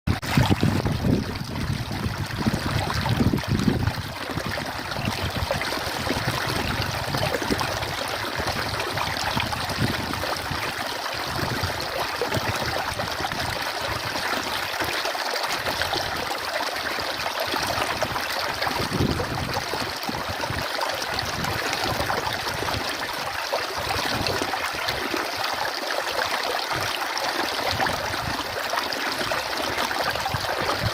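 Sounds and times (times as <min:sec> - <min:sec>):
stream of running water: 0:00.1 - 0:30.9.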